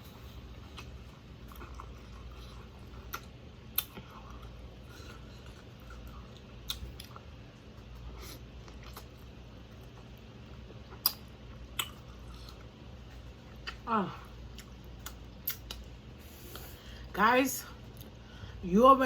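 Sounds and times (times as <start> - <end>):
person chewing food: 0.0 - 17.0
low steady hum: 0.0 - 19.0.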